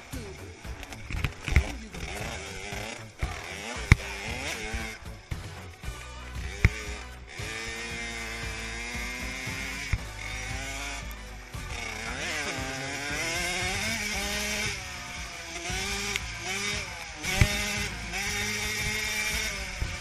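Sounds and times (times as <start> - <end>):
minibike engine revving high: 0.0 - 20.0.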